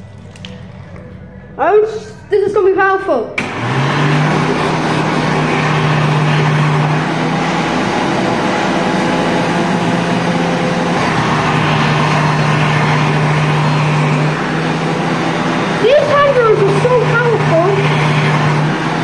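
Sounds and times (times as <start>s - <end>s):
hand dryer blowing: 3.4s - 19.0s.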